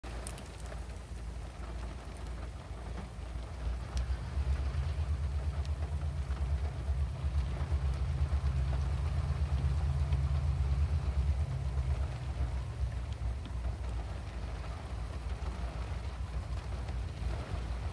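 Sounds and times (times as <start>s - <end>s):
diesel locomotive engine rumble: 0.0s - 17.9s.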